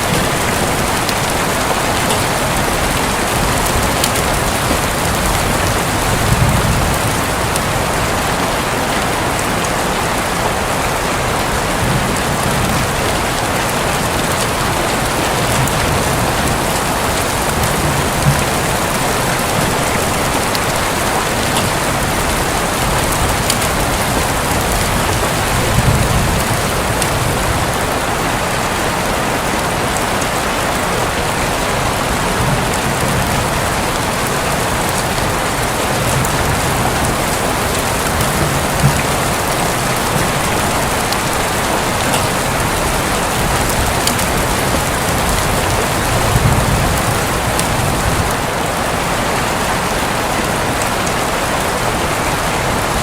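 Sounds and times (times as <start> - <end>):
thunder rumbles: 0.0 - 30.2, 30.8 - 48.8
heavy rain on a roof: 0.0 - 53.0.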